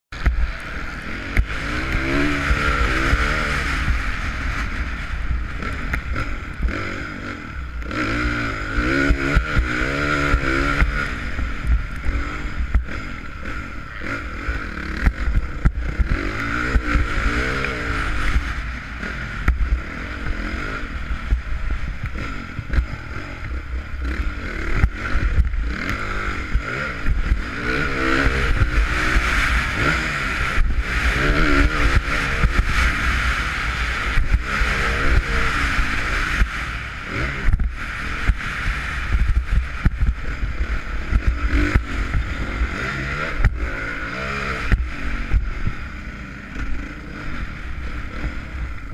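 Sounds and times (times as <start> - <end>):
motocross bike engine revving: 0.1 - 48.9
wind rumble: 0.1 - 48.9.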